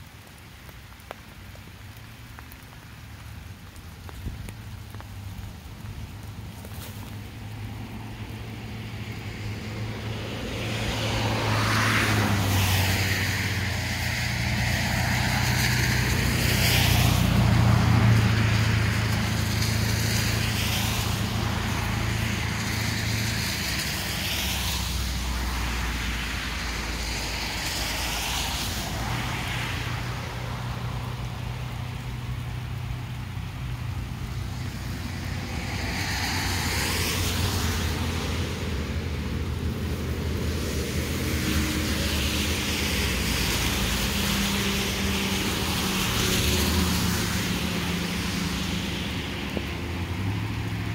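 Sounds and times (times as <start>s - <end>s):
low engine hum: 0.0s - 50.9s
vehicles whooshing past: 0.1s - 50.9s.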